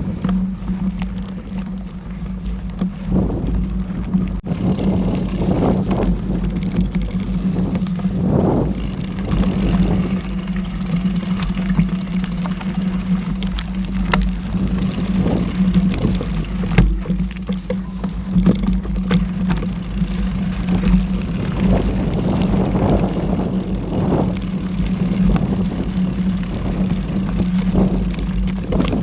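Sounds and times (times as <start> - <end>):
bike knocks and rattles: 0.0 - 29.0
bike tyres rumbling on dirt: 0.0 - 29.0
wind on microphone: 0.0 - 29.0.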